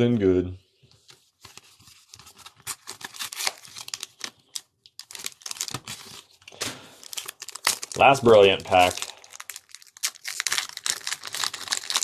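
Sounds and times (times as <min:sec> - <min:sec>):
foil wrapper crinkling and tearing: 0:01.4 - 0:12.0.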